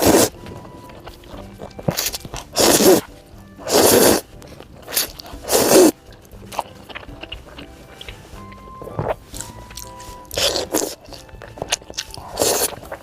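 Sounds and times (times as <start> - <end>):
crunchy bites: 0.0 - 8.2, 8.9 - 13.0
quiet chewing: 0.0 - 13.0
soft background music: 0.0 - 13.0.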